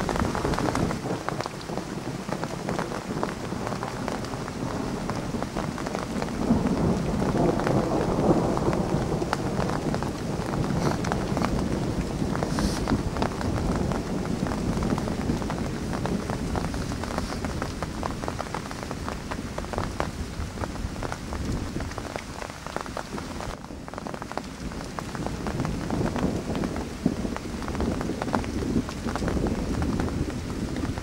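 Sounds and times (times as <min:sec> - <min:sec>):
heavy rain falling: 0:00.0 - 0:31.0
low rumble of thunder: 0:00.0 - 0:31.0.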